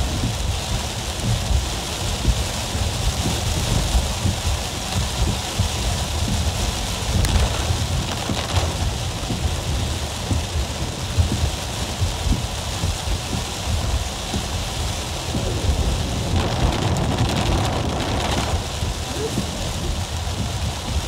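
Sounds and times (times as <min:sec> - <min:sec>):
heavy rain on car roof: 0:00.0 - 0:21.0
low rumble: 0:00.0 - 0:21.0.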